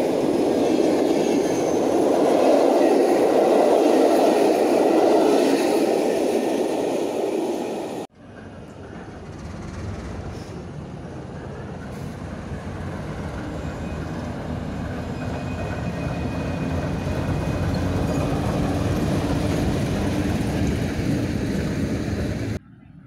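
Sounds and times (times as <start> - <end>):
diesel locomotive engine passing: 0.0 - 22.6.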